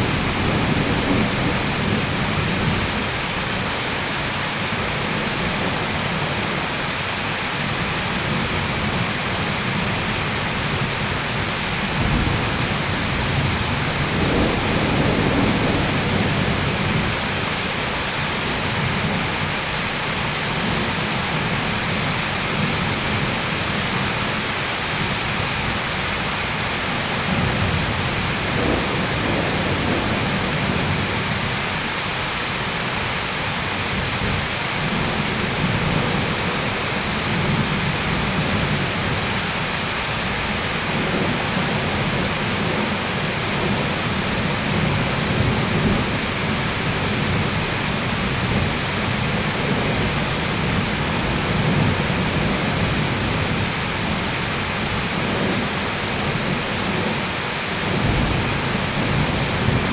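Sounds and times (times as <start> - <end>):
low thunder rumbling: 0.0 - 6.7, 7.6 - 33.1, 33.7 - 59.9
heavy rain falling: 0.0 - 59.9.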